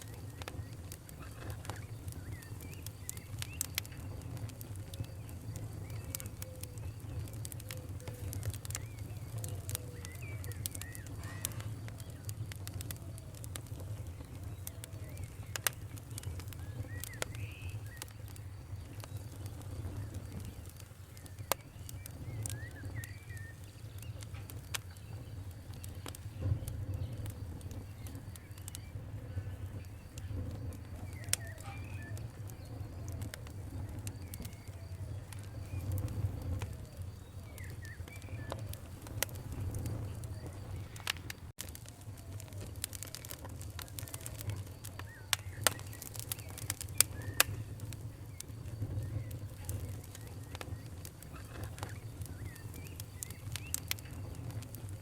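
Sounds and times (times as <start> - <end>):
birds chirping: 0.0 - 55.0
campfire crackling and popping: 0.0 - 55.0.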